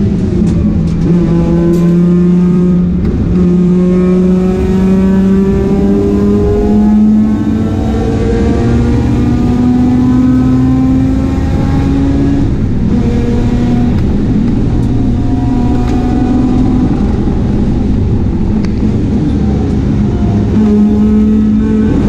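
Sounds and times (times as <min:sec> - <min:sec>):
race car engine pulling hard: 0:00.0 - 0:22.0.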